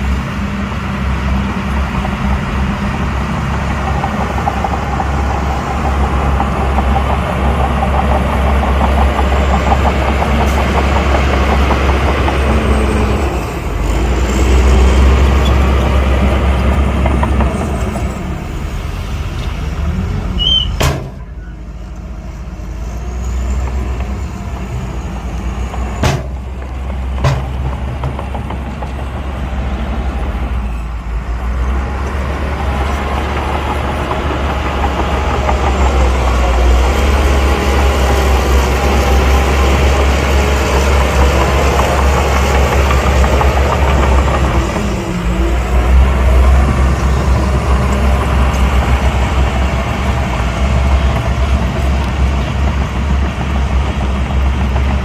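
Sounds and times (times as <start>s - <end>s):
heavy diesel machinery droning: 0.0s - 55.0s.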